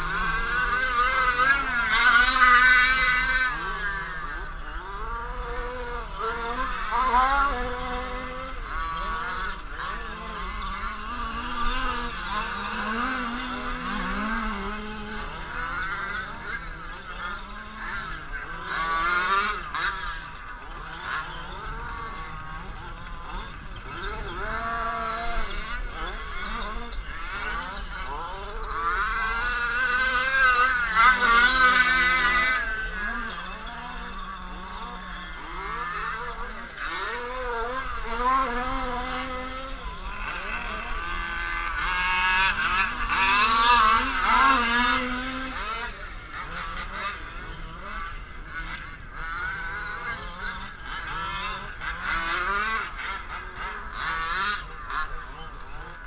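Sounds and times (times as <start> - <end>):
small two-stroke engines revving: 0.0 - 56.0.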